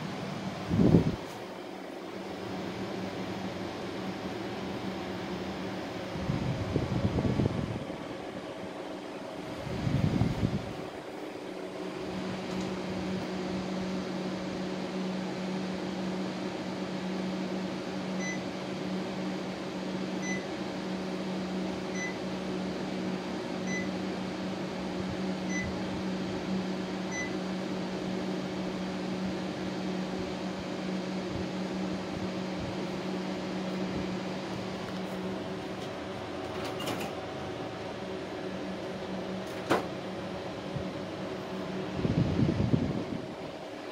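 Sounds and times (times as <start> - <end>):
air conditioner humming: 0.0 - 43.9.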